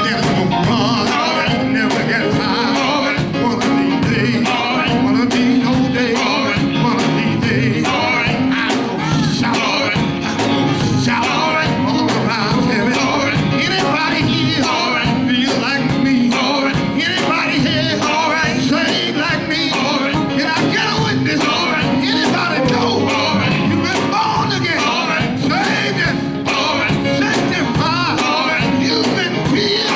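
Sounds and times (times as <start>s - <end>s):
gospel band playing: 0.0s - 29.9s
people singing: 0.0s - 29.9s
steady drum beat: 0.0s - 29.9s.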